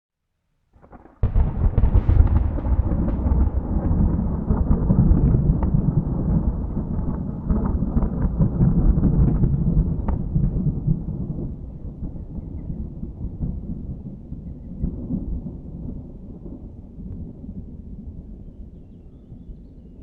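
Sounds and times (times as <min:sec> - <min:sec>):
thunder crack: 0:00.8 - 0:17.6
deep thunder rumble: 0:00.8 - 0:20.0.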